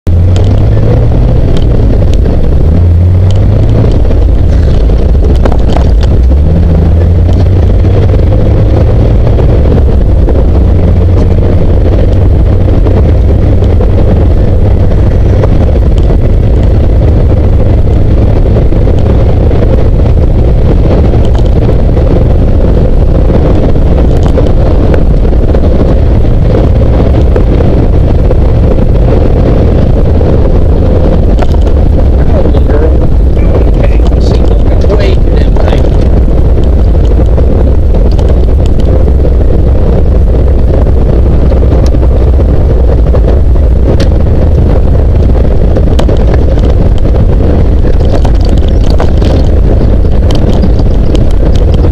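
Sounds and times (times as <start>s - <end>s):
car engine droning: 0.0s - 51.9s
wind buffeting microphone: 0.0s - 51.9s.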